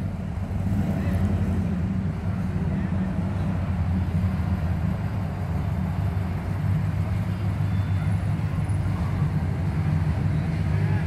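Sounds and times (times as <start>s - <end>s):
cars and trucks driving past: 0.0s - 11.0s.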